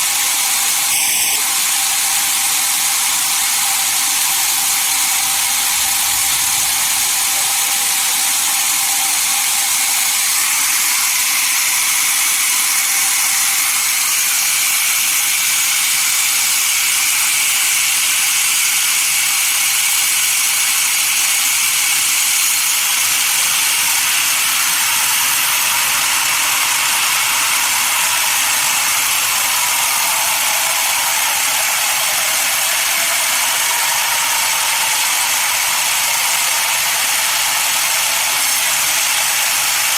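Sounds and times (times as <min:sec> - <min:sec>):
saw cutting log: 0:00.0 - 0:39.9.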